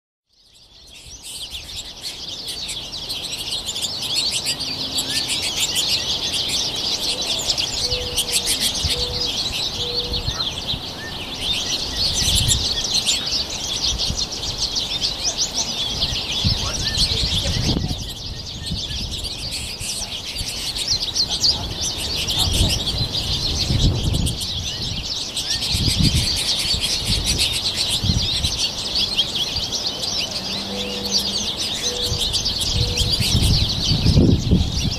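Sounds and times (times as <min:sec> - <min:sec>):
birds twittering: 0:00.3 - 0:34.9.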